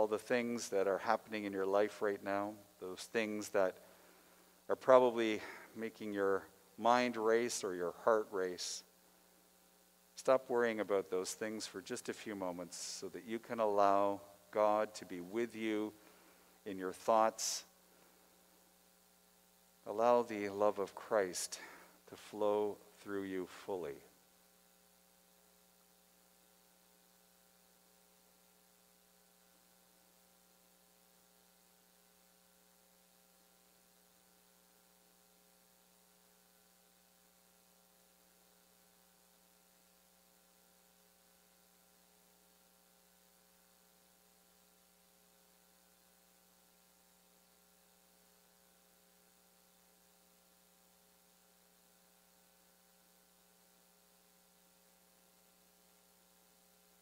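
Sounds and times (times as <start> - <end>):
faint electrical hum with hiss: 0.0 - 57.0.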